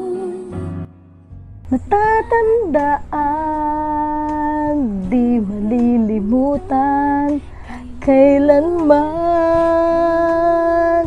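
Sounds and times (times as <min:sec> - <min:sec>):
woman singing: 0:00.0 - 0:00.9, 0:01.7 - 0:11.0.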